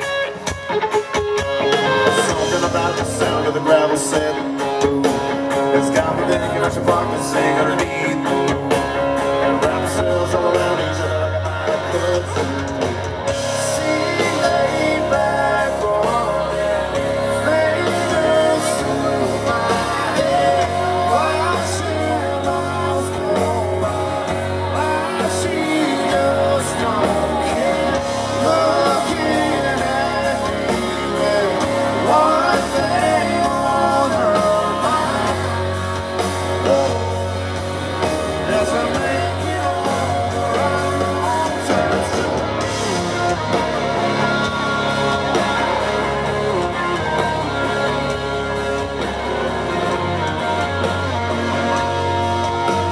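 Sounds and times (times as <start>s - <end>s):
live country-rock band: 0.0s - 52.9s
person singing: 0.0s - 52.9s.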